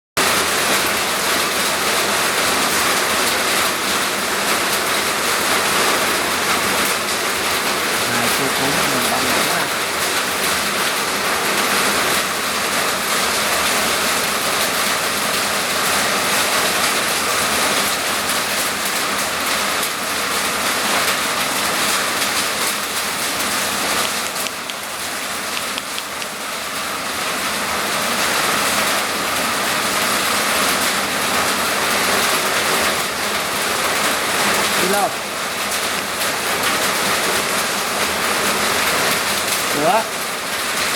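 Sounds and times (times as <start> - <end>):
heavy rain: 0.2 - 40.9.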